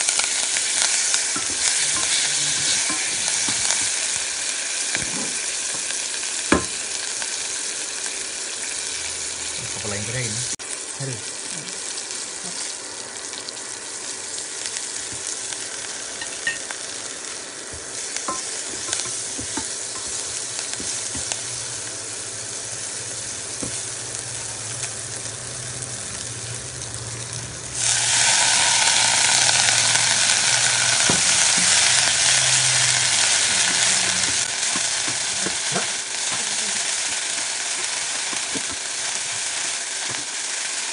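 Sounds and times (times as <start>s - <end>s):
leaves sizzling in hot oil: 0.0s - 40.9s.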